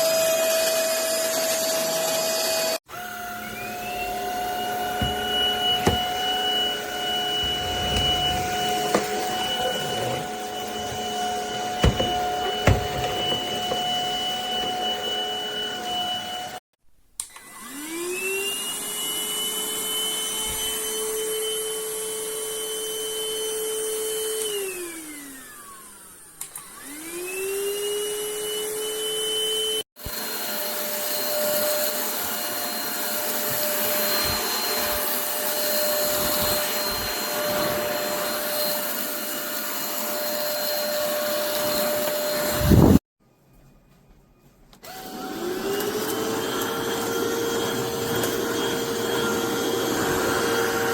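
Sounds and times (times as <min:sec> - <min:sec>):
vacuum cleaner motor whine: 0:00.0 - 0:16.6, 0:17.2 - 0:43.0, 0:44.8 - 0:50.9.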